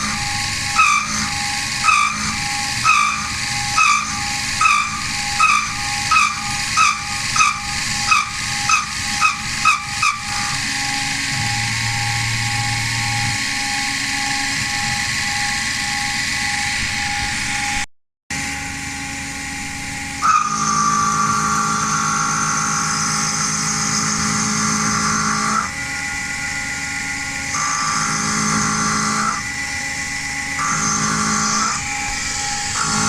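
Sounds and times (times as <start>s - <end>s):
milling machine spindle whine: 0.0s - 17.8s, 18.4s - 33.0s
louder whine and low hum: 0.0s - 33.0s.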